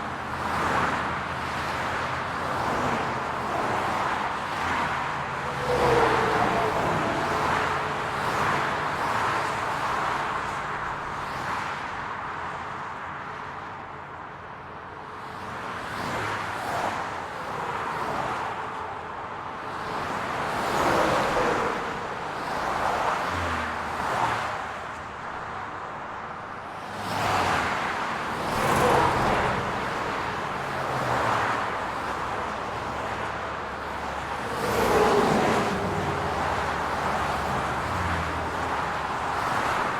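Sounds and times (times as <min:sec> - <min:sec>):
cars passing: 0:00.0 - 0:14.2, 0:15.0 - 0:39.9.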